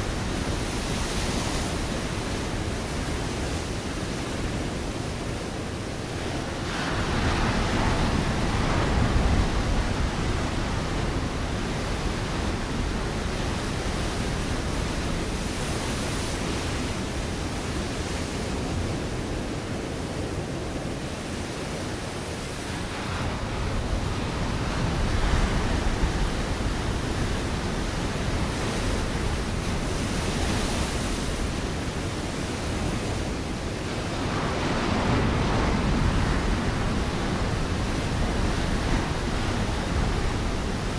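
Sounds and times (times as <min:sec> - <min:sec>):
ocean waves breaking on rocks: 0:00.0 - 0:40.9.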